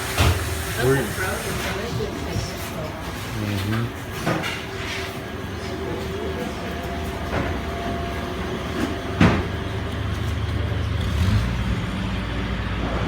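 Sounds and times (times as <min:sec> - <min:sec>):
vehicle engine rumbling: 0:02.0 - 0:13.0.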